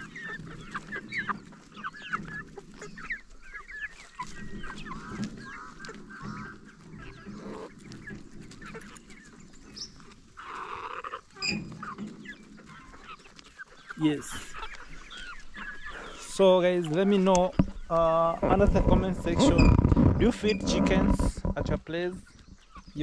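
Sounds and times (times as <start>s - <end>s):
chickens clucking and calling: 0.0s - 23.0s.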